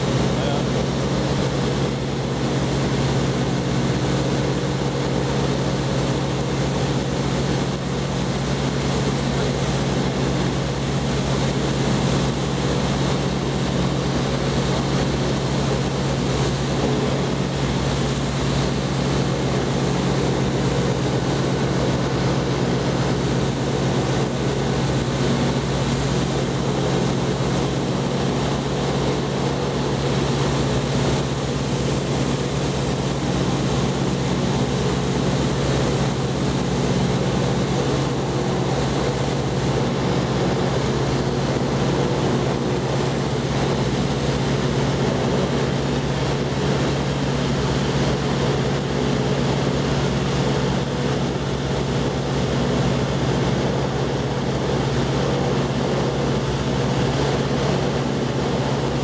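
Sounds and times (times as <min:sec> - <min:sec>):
light aircraft engine hum: 0:00.0 - 0:59.0.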